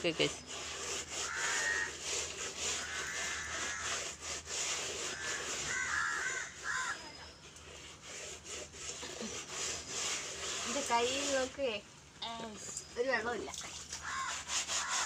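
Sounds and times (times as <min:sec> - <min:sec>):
gloved hands scrubbing tyre: 0:00.0 - 0:11.7, 0:14.0 - 0:15.0.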